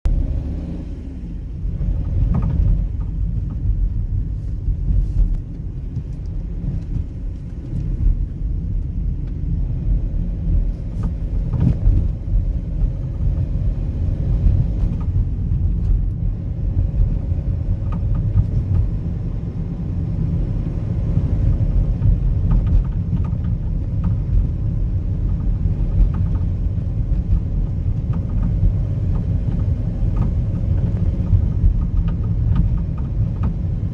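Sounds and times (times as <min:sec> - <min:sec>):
low road rumble: 0:00.0 - 0:33.9
suspension knocks and rattles: 0:01.5 - 0:33.9.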